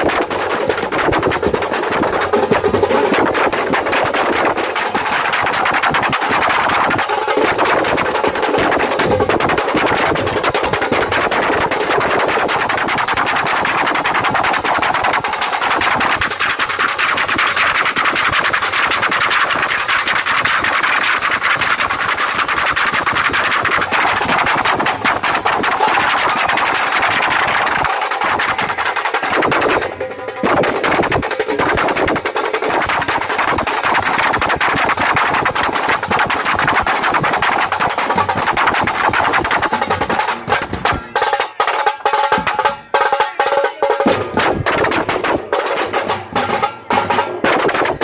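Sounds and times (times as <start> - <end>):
drum troupe playing fast rhythms: 0.0 - 48.0.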